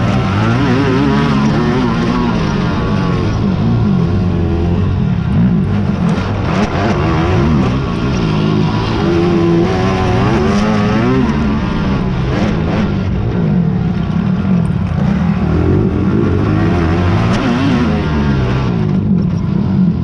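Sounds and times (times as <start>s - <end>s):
racing quad engines revving: 0.0s - 20.0s.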